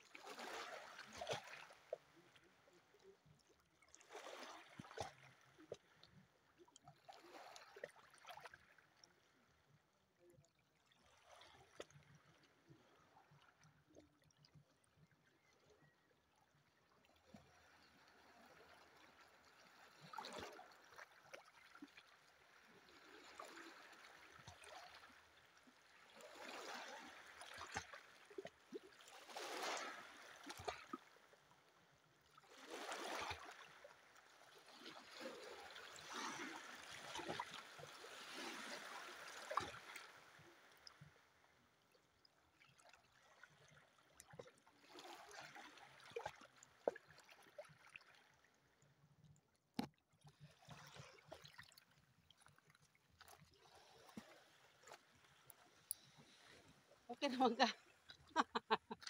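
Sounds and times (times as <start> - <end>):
small waves lapping on rocks: 0.0 - 6.3, 7.0 - 9.8, 17.4 - 48.6, 49.8 - 59.0.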